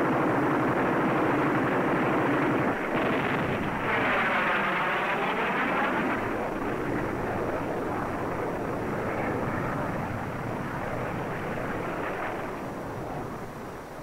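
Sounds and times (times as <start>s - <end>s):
jet roar passing over: 0.0s - 14.0s.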